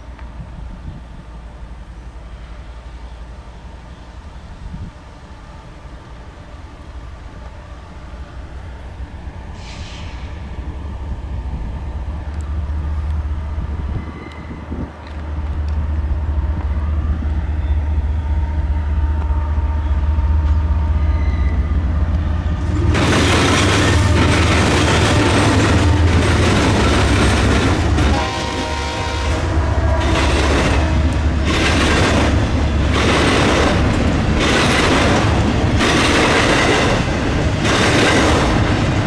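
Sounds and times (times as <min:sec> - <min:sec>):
diesel locomotive engine drone: 0:00.0 - 0:39.0
train wheel and rail noise: 0:00.0 - 0:39.0.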